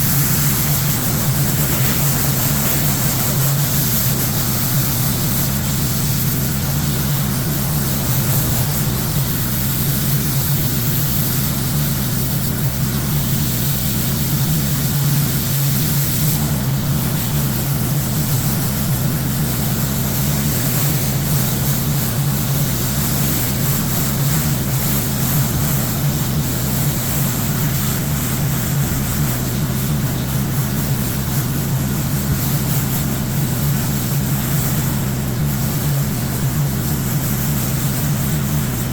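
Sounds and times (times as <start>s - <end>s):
high-pressure water spraying: 0.0s - 38.9s
pressure washer engine running: 0.0s - 38.9s.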